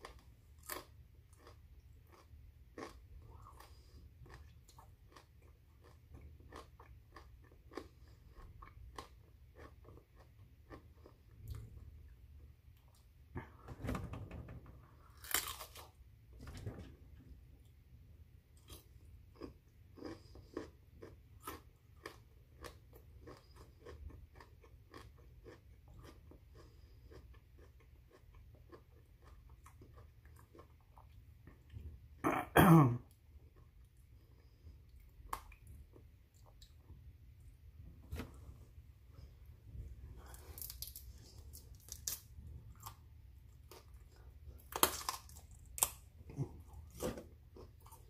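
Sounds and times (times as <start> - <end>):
chewing crisp broccoli: 0.0 - 13.2, 14.9 - 16.0, 18.5 - 32.2, 33.1 - 37.7, 39.1 - 48.0.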